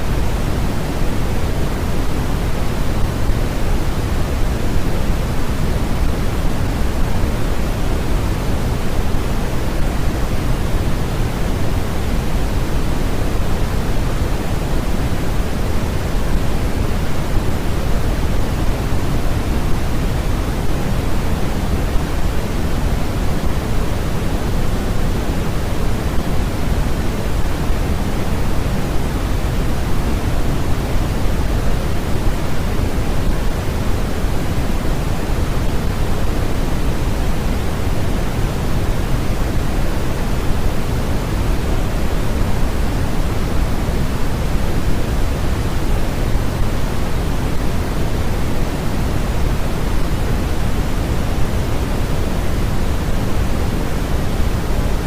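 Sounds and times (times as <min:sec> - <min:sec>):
steady synthetic noise hiss: 0:00.0 - 0:55.0.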